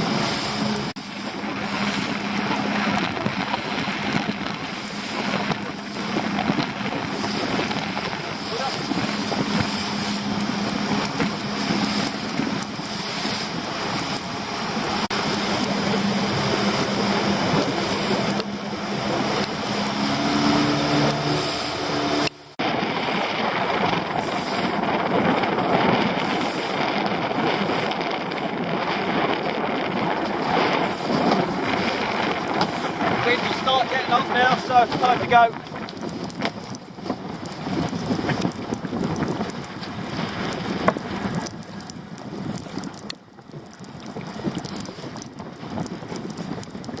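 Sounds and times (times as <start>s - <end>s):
strong wind buffeting microphone: 0.0s - 47.0s.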